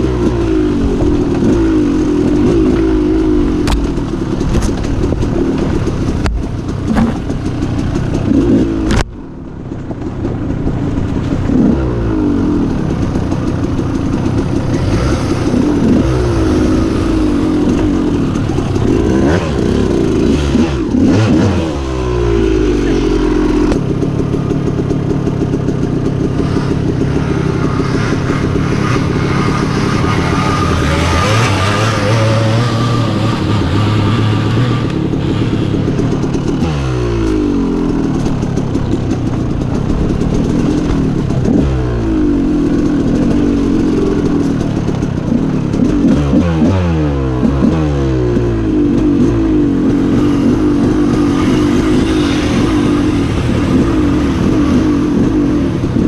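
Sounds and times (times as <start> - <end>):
dirt bike engine revving: 0.0 - 9.0, 11.1 - 56.0.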